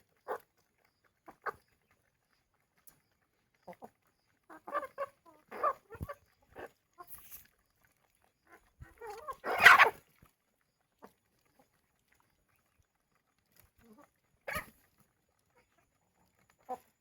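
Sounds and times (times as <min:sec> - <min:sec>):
farm animal calls: 0:00.0 - 0:17.0.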